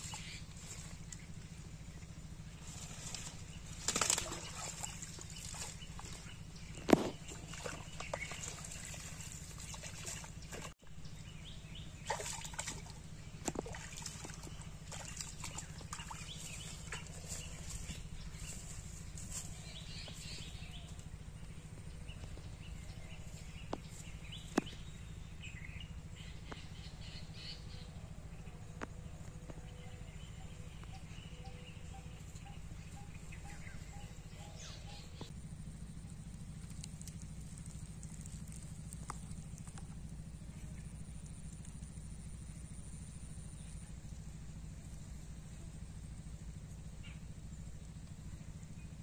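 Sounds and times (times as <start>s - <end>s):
birds calling: 0.0s - 44.8s, 45.4s - 49.0s
steady low rumble: 0.0s - 49.0s.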